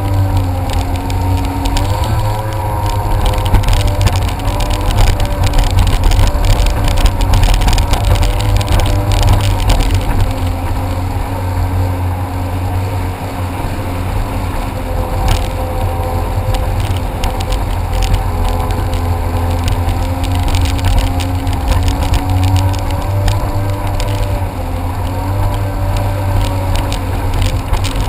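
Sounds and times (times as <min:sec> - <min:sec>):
jet ski engine rumbling: 0:00.0 - 0:28.0
wind buffeting microphone: 0:00.0 - 0:28.0.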